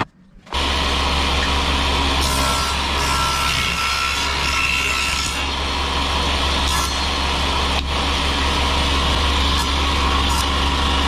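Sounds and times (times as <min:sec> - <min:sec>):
table saw motor running: 0:00.5 - 0:11.0.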